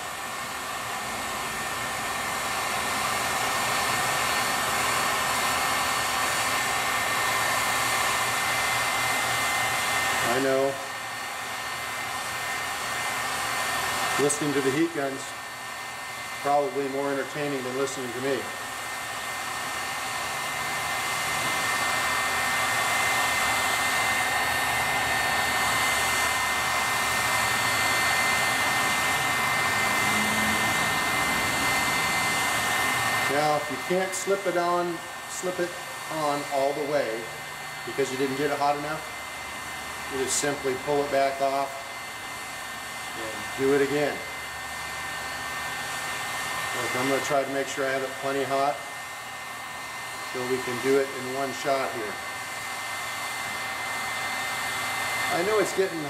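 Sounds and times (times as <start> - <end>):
heat gun blowing air: 0.0 - 56.0.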